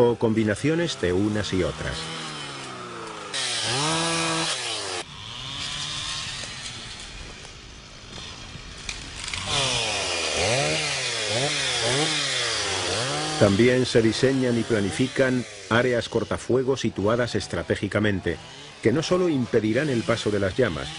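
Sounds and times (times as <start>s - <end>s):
two-stroke engine revving: 0.0s - 7.1s, 8.1s - 20.9s.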